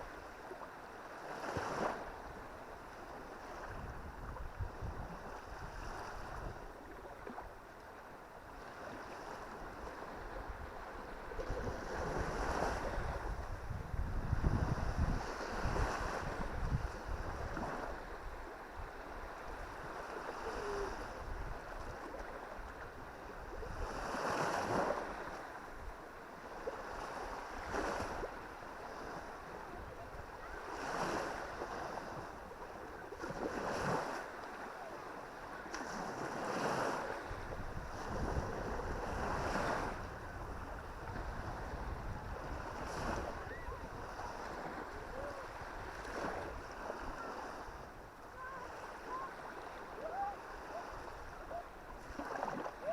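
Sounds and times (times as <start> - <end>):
waves washing up a sandy beach: 0.0 - 52.9
wind rumbling on microphone: 3.2 - 7.4, 8.6 - 34.2, 35.8 - 52.9.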